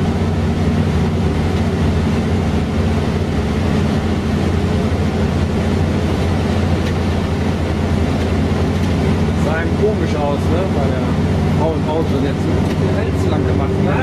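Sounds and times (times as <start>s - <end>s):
diesel bus engine running: 0.0s - 14.0s
road and body noise: 0.0s - 14.0s.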